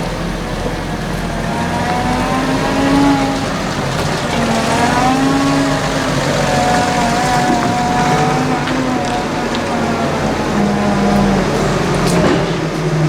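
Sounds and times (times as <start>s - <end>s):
diesel tractor engine revving: 0.0s - 13.0s.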